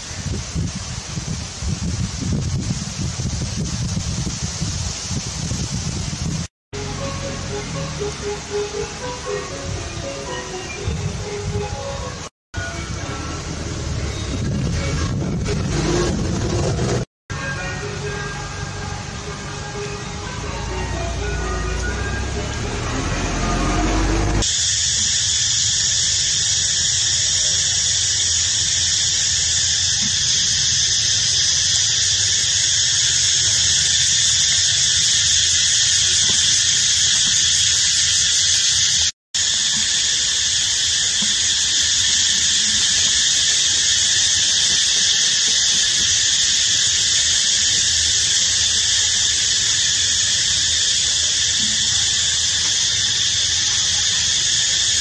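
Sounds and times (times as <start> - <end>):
cicadas calling: 0.0 - 55.0.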